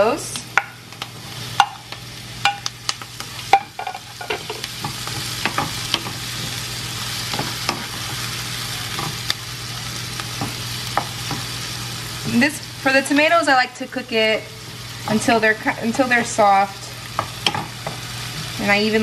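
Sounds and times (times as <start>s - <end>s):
tomatoes sizzling in oil: 0.0s - 19.0s.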